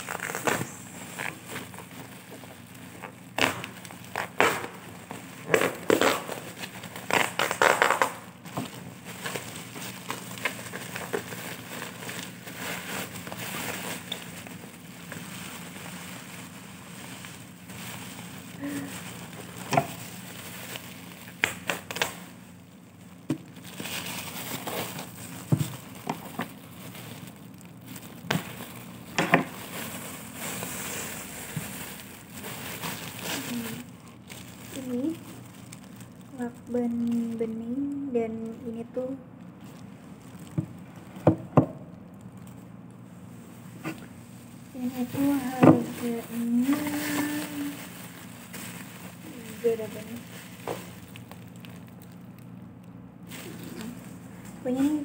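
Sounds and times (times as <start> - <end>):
plastic bag crinkling: 0.0 - 55.0.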